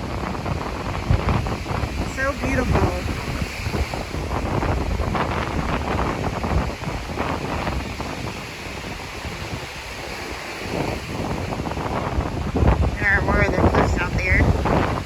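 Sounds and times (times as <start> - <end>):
surf washing ashore: 0.0 - 15.0
wind buffeting microphone: 0.0 - 15.0.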